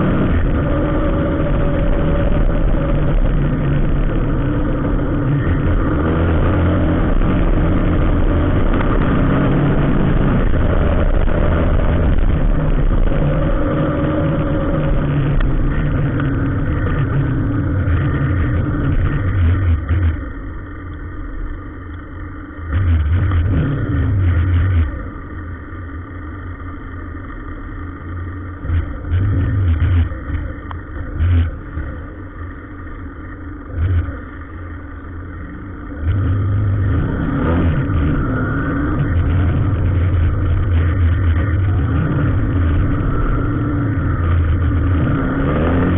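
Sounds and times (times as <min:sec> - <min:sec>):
vehicle engine in traffic: 0:00.0 - 0:45.9.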